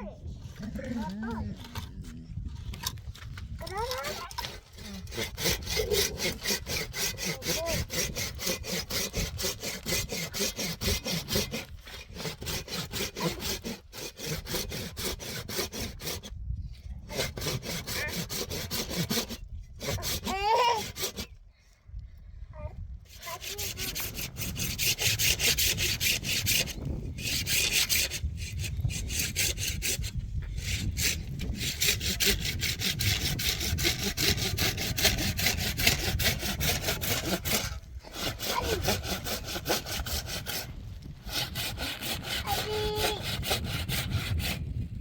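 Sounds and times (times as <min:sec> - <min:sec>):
hand saw cutting wood: 0:00.6 - 0:16.4, 0:17.0 - 0:21.4, 0:23.1 - 0:44.8.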